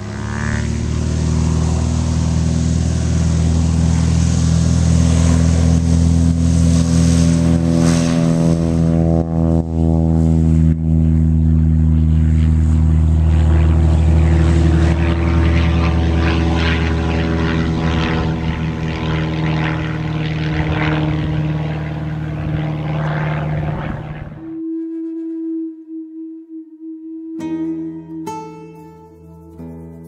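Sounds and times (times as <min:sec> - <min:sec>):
propeller aircraft engine running: 0:00.0 - 0:26.0, 0:28.8 - 0:30.0.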